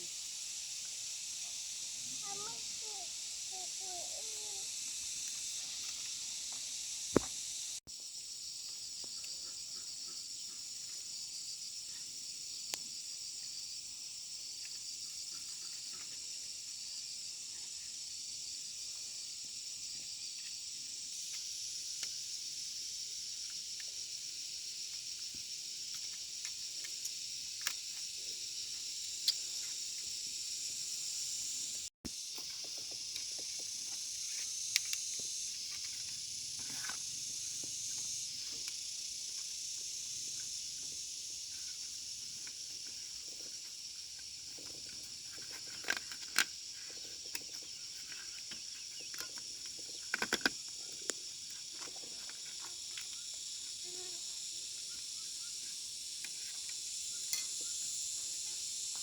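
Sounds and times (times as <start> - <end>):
insects shrilling: 0.0 - 59.0.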